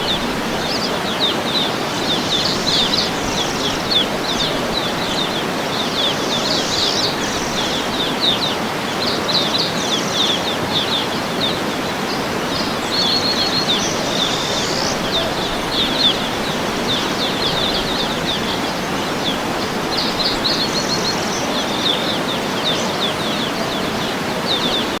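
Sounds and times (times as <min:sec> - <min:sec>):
small birds chirping: 0:00.0 - 0:25.0
steady background hiss: 0:00.0 - 0:25.0.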